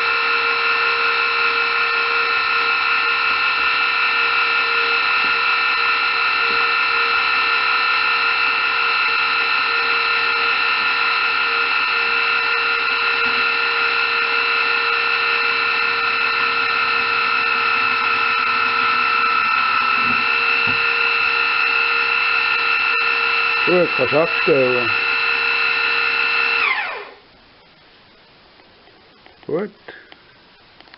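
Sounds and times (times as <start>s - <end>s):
small electric motor whining: 0.0s - 27.2s.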